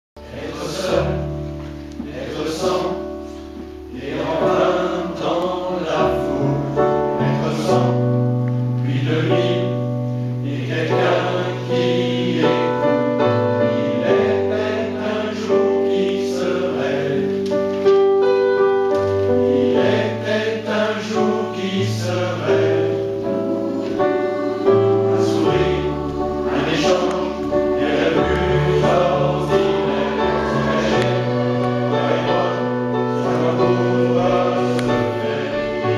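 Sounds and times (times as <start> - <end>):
mixed choir singing: 0.2 - 17.8, 19.0 - 35.9.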